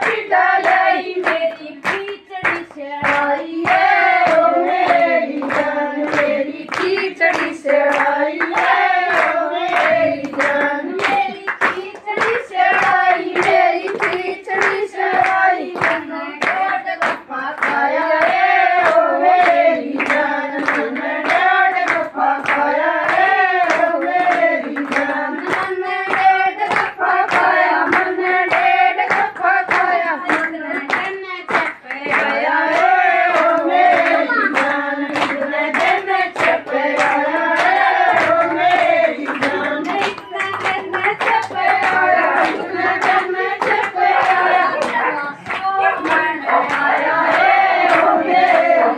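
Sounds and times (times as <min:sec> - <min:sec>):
hands clapping: 0:00.0 - 0:48.9
women singing a folk song: 0:00.0 - 0:48.9.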